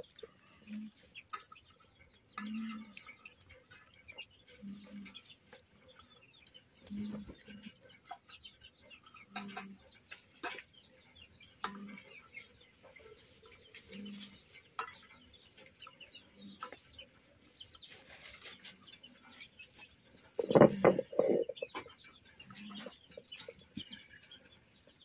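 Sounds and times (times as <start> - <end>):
chickens clucking: 0.0 - 25.0
small birds chirping: 0.0 - 25.0.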